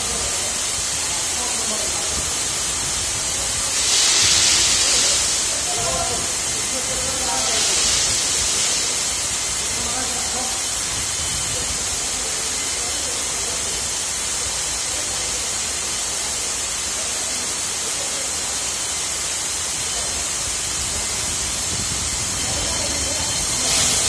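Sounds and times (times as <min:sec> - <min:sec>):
water spray hissing: 0:00.0 - 0:24.0.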